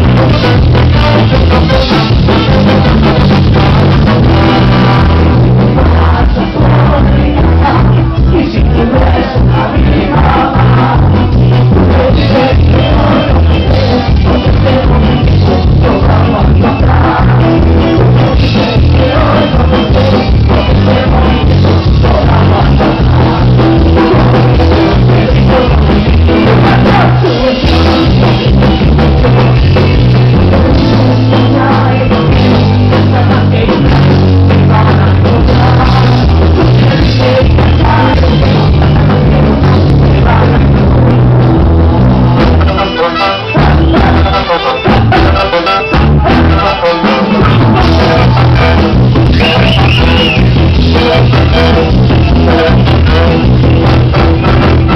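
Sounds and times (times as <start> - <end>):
live ska band playing: 0.0 - 54.9
person singing: 0.0 - 54.9.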